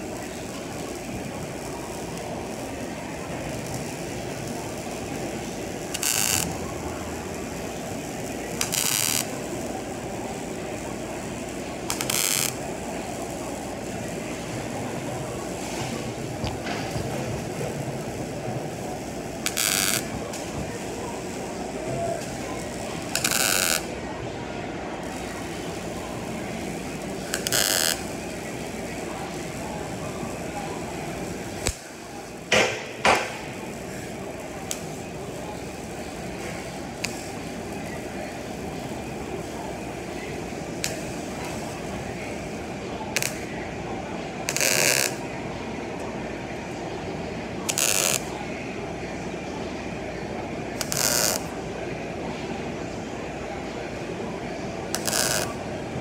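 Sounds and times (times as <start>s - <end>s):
welding arc crackling: 0.0s - 24.0s, 25.0s - 43.8s, 44.4s - 45.2s, 47.7s - 48.3s, 50.8s - 51.6s, 54.8s - 56.0s
workshop hum: 0.0s - 56.0s.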